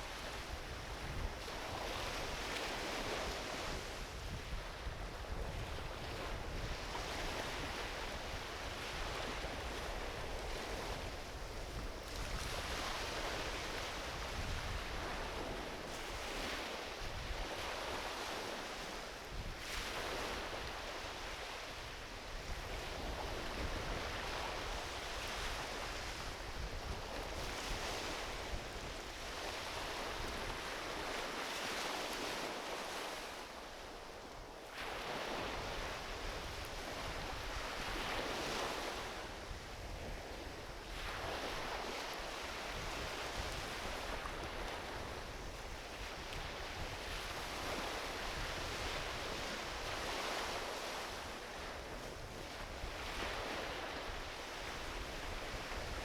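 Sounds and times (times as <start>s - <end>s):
ocean waves washing onto beach: 0.0s - 56.0s.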